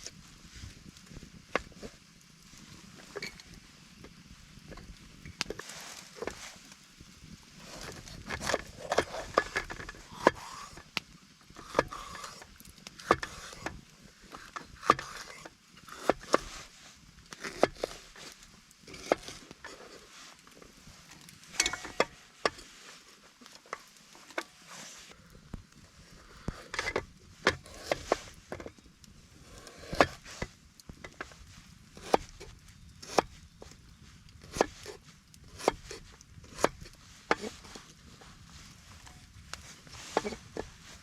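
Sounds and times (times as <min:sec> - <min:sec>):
cooking gear knocking and scraping: 0:00.0 - 0:41.0.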